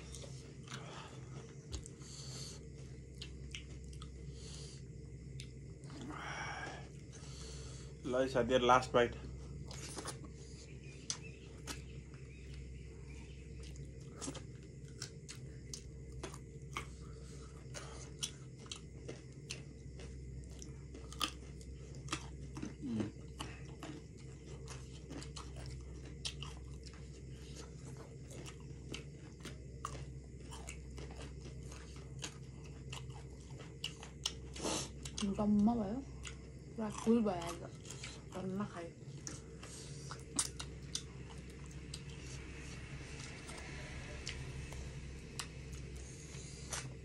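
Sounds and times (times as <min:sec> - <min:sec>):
wet chewing and mouth clicks: 0:00.0 - 0:06.1, 0:09.5 - 0:47.0
steady low hum: 0:00.0 - 0:47.0.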